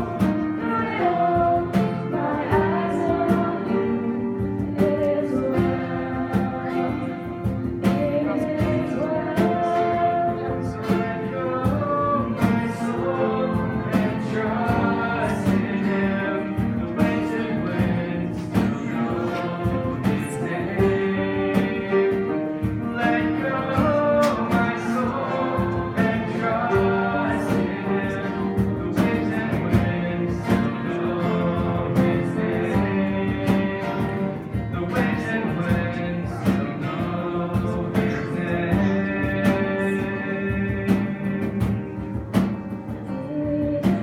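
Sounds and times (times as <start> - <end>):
person singing: 0.0 - 44.0
strummed guitar: 0.0 - 44.0.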